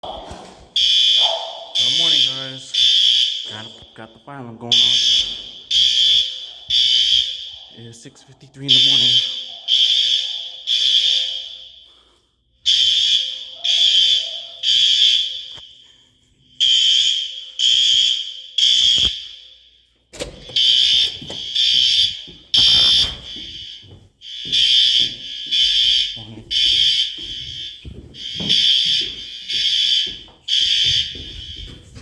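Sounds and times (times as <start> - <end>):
fire alarm beeps: 0.0 - 32.0.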